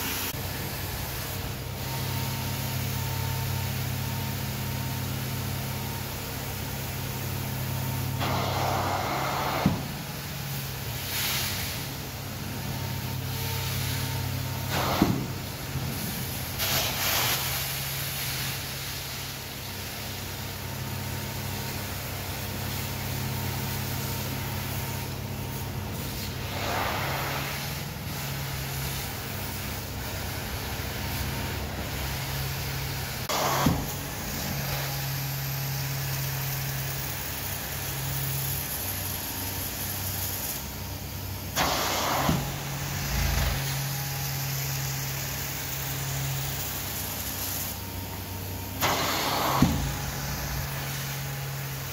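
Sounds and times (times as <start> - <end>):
carpet extractor drone and suction hiss: 0.0 - 51.9.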